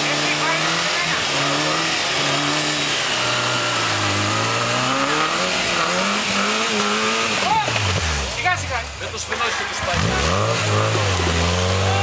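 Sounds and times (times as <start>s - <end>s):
engine working under load: 0.0s - 12.0s
tyres churning through snow: 0.0s - 12.0s.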